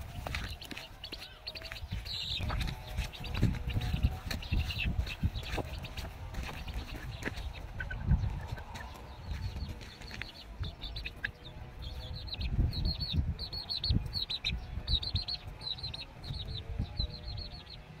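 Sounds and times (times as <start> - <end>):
chick peeping shrilly: 0.0 - 17.9
low rumbling microphone noise: 1.6 - 18.0.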